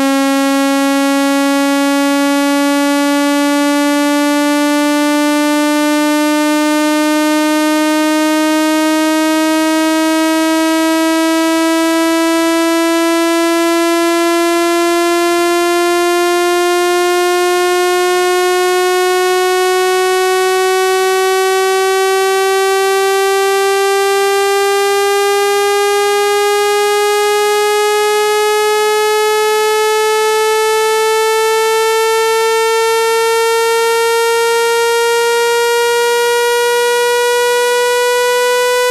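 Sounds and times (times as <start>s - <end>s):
buzzy electronic tone rising: 0.0s - 38.9s.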